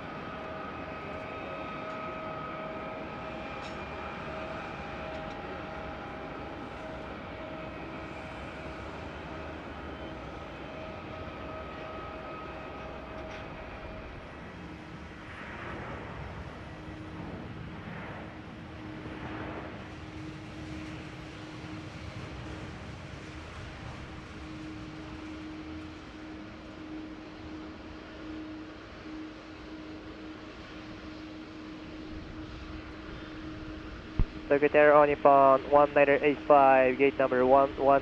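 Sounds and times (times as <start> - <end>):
jet engines whining: 0.0 - 38.0
low hum with slow swells: 0.0 - 38.0.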